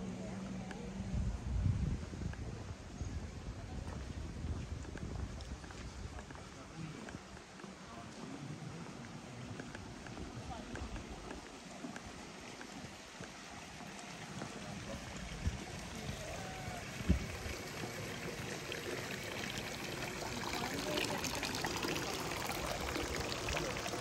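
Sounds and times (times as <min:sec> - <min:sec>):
faint voices: 0:00.0 - 0:24.0
running water rushing: 0:03.2 - 0:24.0.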